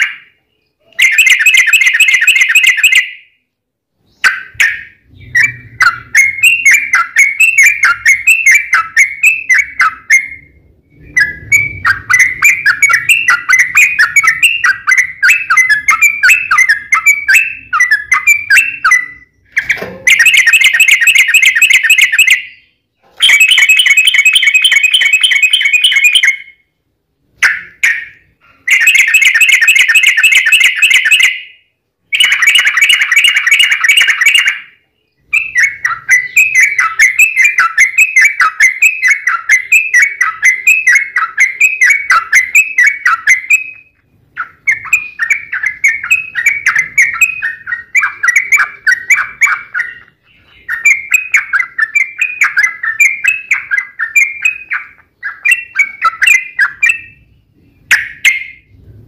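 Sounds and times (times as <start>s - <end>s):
bulbul singing trills: 0.0s - 3.4s, 4.0s - 26.7s, 27.4s - 58.8s.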